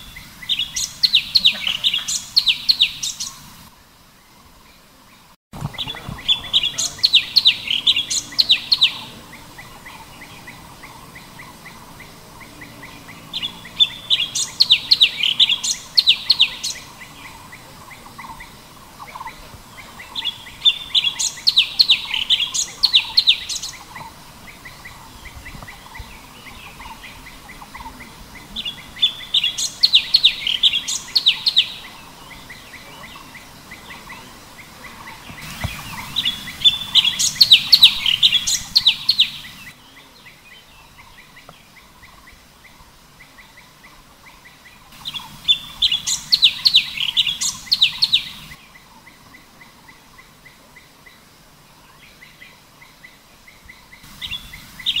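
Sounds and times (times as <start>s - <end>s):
soft bird calling: 0.0s - 55.0s
songbird warbling: 0.0s - 55.0s.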